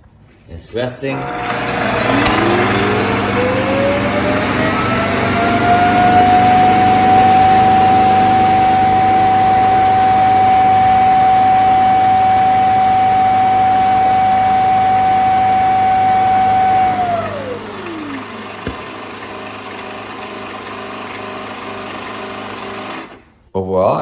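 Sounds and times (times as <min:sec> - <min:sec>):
suction motor whine: 0:01.0 - 0:23.3.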